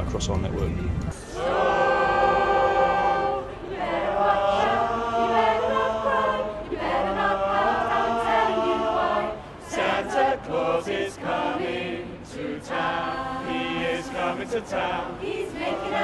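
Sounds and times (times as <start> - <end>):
choir singing in harmony: 1.2 - 16.0.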